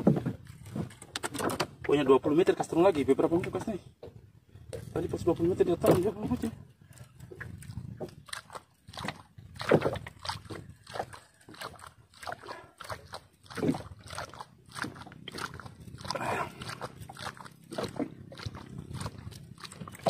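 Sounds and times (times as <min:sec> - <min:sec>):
gulping and sloshing water: 0:00.0 - 0:20.0.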